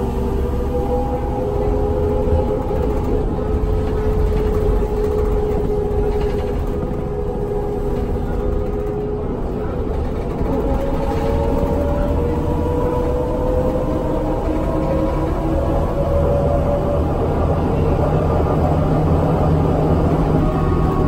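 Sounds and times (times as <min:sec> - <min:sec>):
bus diesel engine rumble: 0:00.0 - 0:21.0
drivetrain whine: 0:00.0 - 0:21.0.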